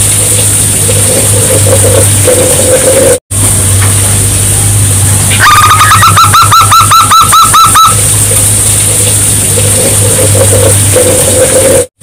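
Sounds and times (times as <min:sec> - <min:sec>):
steady hum and hiss: 0:00.0 - 0:12.0.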